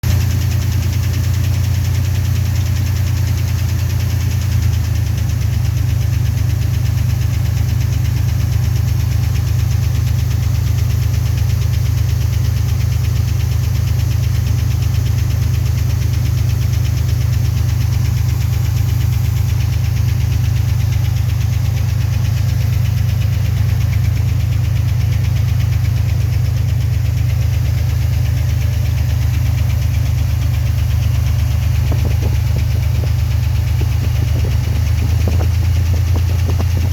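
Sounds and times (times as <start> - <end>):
engine idling: 0.0 - 36.9
engine knocking: 0.0 - 36.9.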